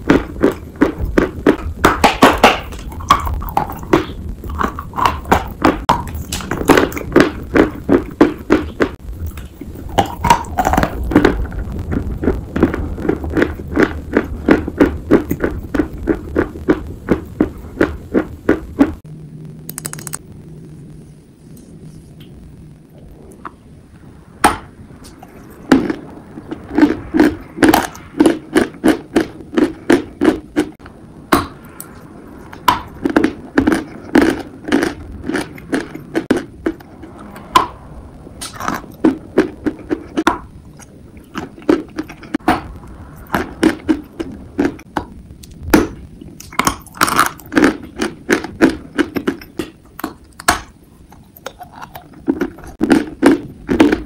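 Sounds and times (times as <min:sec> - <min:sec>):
chalk crunching while chewed: 0:00.0 - 0:19.0, 0:25.0 - 0:37.7, 0:38.4 - 0:54.0.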